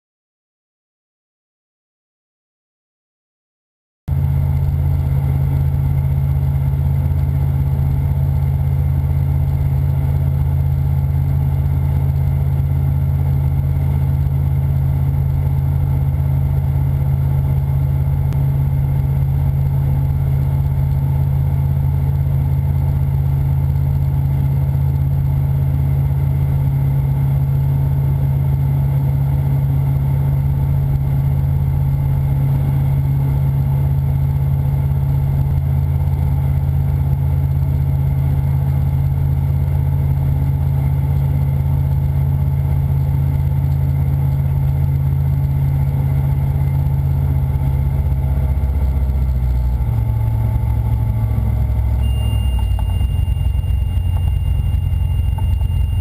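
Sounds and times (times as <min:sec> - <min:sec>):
light aircraft engine droning: 0:04.1 - 0:56.0.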